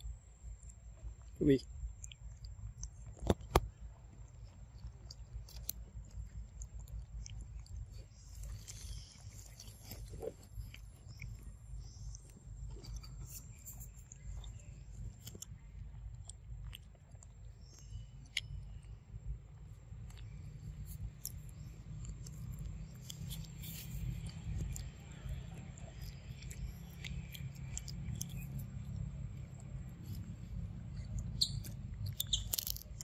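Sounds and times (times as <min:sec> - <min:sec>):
monkeys chewing: 0:00.6 - 0:33.0.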